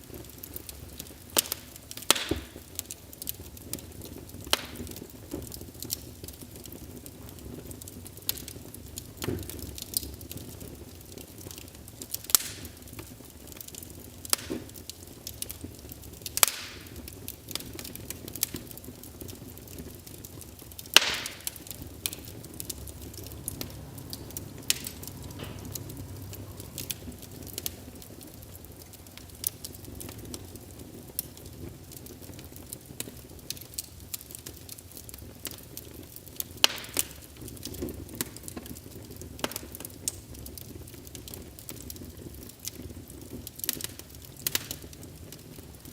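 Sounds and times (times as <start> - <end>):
low fire rumble: 0.0 - 45.9
wood fire crackling and popping: 0.0 - 45.9.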